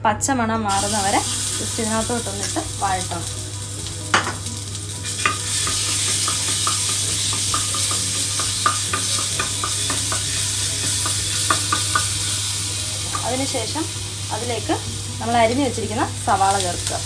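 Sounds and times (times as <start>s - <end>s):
paste sizzling in oil: 0.7s - 17.0s.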